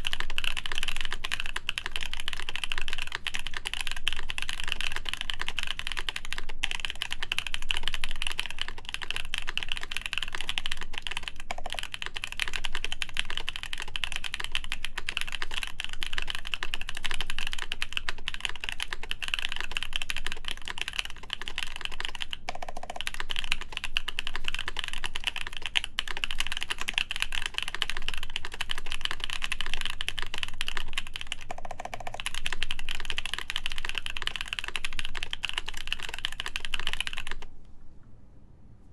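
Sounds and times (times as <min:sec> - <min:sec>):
mechanical keyboard typing: 0:00.0 - 0:37.5.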